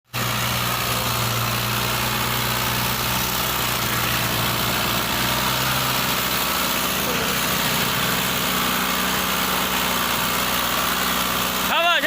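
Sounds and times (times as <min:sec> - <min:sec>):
tractor engine running: 0:00.1 - 0:12.0.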